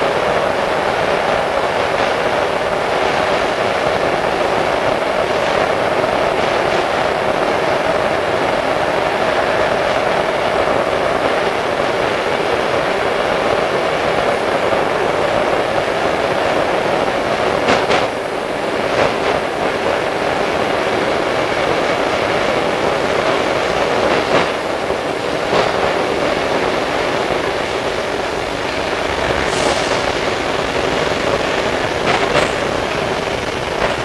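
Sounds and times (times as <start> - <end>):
train interior rumble: 0.0 - 34.0.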